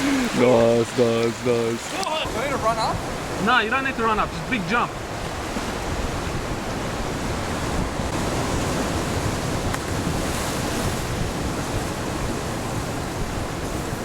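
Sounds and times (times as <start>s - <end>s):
ocean surf against rocks: 0.0s - 14.0s
wind buffeting microphone: 0.0s - 14.0s.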